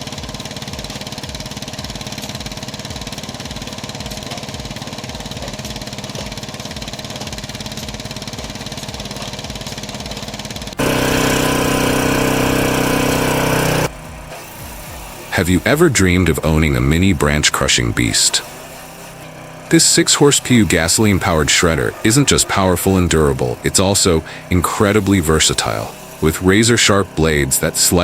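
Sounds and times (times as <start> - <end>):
loud machine with steady tones: 0.0 - 28.0
machine engine pulsing: 0.0 - 28.0.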